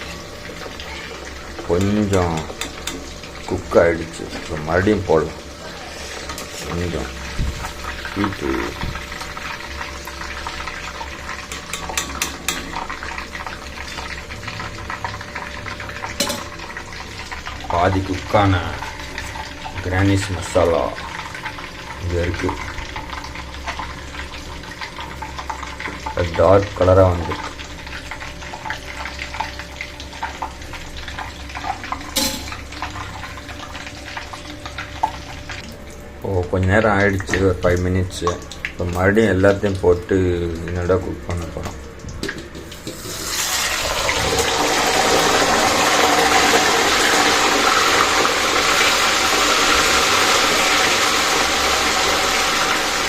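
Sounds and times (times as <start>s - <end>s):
chicken deep-frying in oil: 0.0s - 53.0s.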